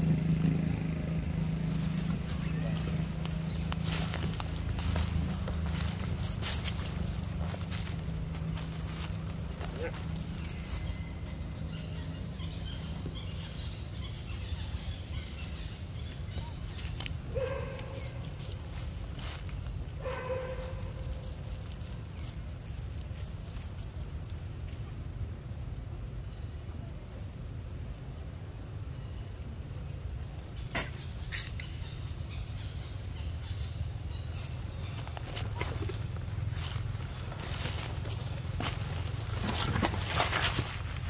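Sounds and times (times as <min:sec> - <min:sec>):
high insect trill: 0:00.0 - 0:41.0.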